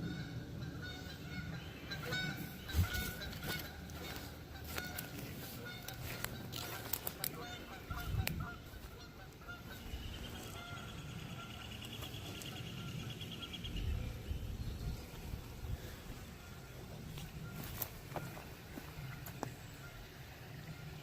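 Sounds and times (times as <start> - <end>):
birds honking calls: 0.0 - 21.0.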